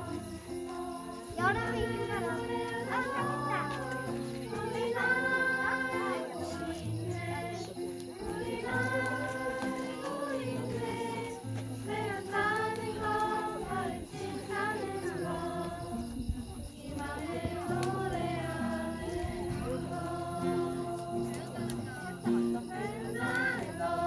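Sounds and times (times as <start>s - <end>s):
children singing in unison: 0.0s - 24.0s.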